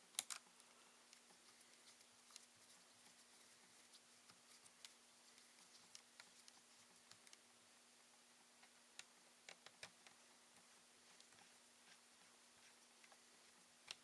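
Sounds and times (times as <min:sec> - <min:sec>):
small clicks and ticks: 0:00.0 - 0:07.5, 0:08.5 - 0:14.0
faint steady hum: 0:00.0 - 0:14.0.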